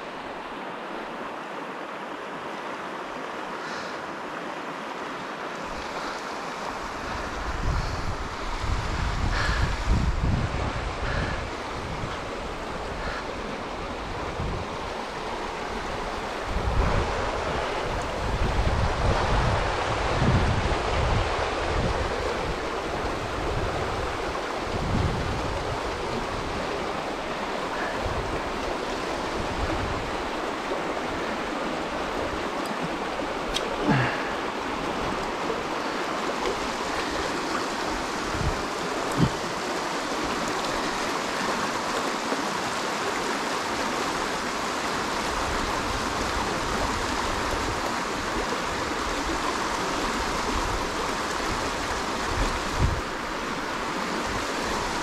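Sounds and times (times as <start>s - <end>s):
river rushing over rapids: 0.0s - 55.0s.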